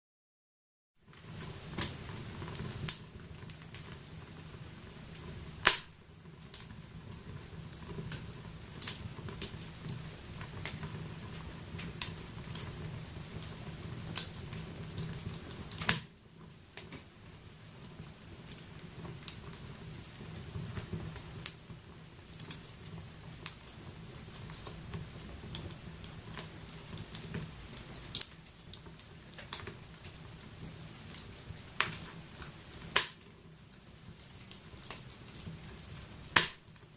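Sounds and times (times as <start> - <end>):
wood fire crackling and popping: 1.0 - 36.9.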